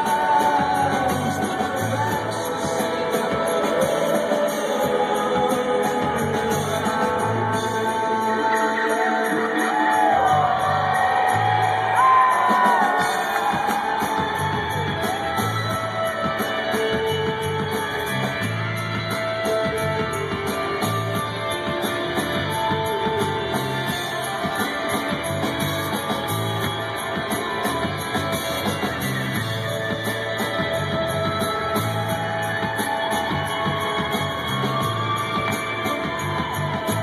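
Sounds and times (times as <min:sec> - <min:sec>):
live rock band: 0:00.0 - 0:37.0.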